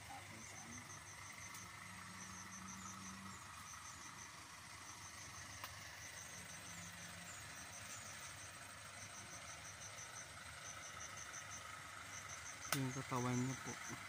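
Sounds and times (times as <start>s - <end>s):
insects chirping: 0.0s - 14.0s
steady low rumble: 0.0s - 14.0s.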